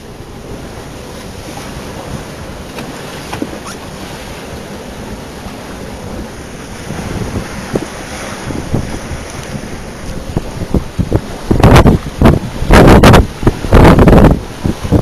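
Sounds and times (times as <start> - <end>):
water washing past hull: 0.0 - 15.0
wind buffeting microphone: 0.0 - 15.0.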